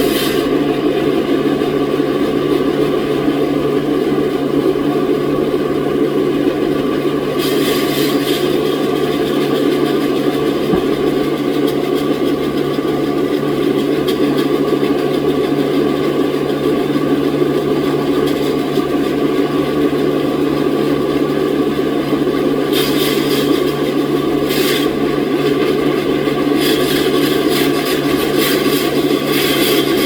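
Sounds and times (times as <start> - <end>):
constant low hum: 0.0 - 30.0
sawmill machinery drone: 0.0 - 30.0.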